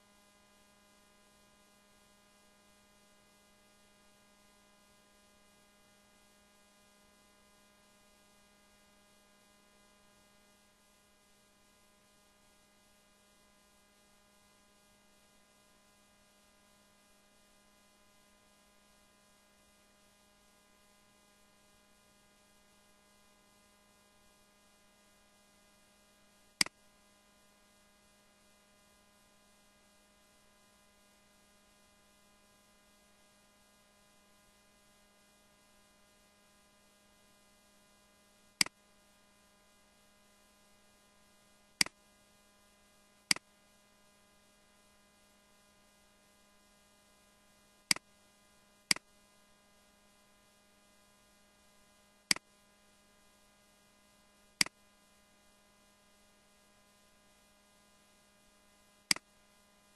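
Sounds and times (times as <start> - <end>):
faint electrical hum: 0.0 - 59.9.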